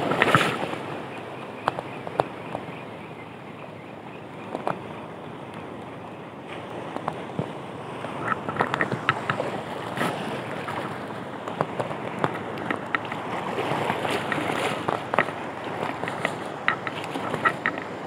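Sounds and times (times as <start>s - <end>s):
sea water splashing: 0.0s - 18.0s.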